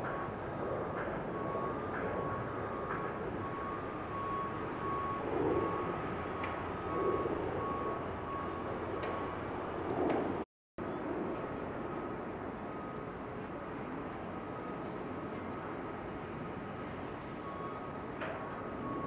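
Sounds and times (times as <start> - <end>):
reversing alarm beeping: 0.0 - 9.4, 12.4 - 19.0
traffic rumble: 0.0 - 19.0
wind: 0.0 - 19.0.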